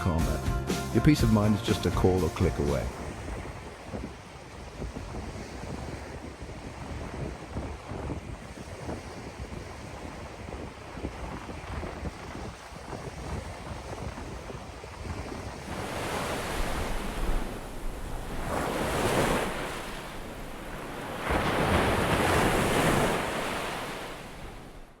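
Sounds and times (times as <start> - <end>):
waves washing in: 0.0 - 25.0.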